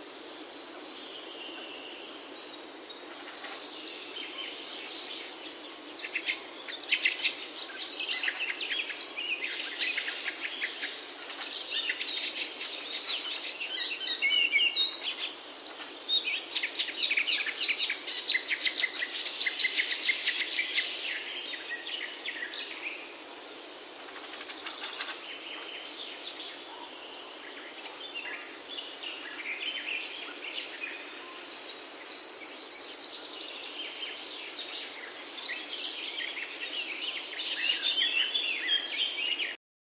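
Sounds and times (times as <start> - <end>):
forest birds chirping and singing: 0.0 - 39.6
steady background hiss: 0.0 - 39.6.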